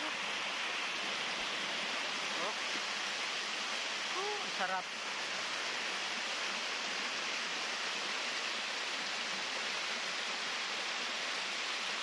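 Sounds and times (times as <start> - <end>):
stream water rushing over cascade: 0.0 - 12.0.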